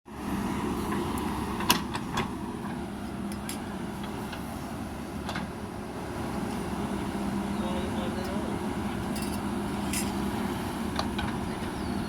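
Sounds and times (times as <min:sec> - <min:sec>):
heavy machinery engine drone: 0:00.1 - 0:12.0.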